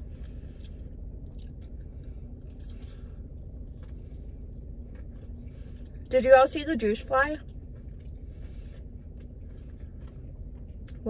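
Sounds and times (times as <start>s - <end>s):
person chewing: 0.0s - 6.1s, 7.5s - 11.0s
steady low hum: 0.0s - 11.0s.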